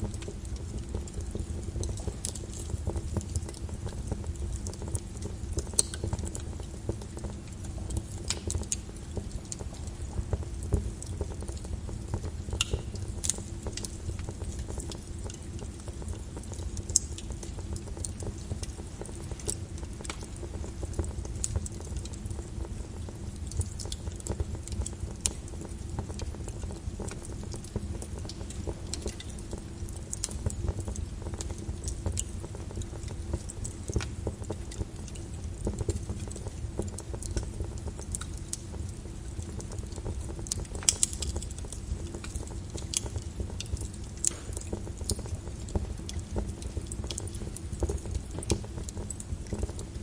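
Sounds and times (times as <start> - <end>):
lava crackling and clicking: 0.0 - 50.0.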